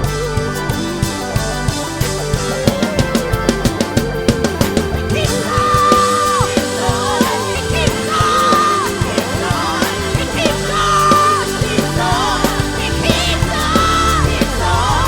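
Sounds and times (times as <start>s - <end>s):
high held melody line: 0.0s - 15.0s
live worship band music: 0.0s - 15.0s.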